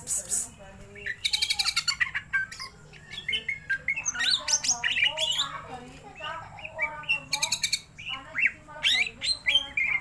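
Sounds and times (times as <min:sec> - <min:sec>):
bird singing: 0:00.0 - 0:10.0.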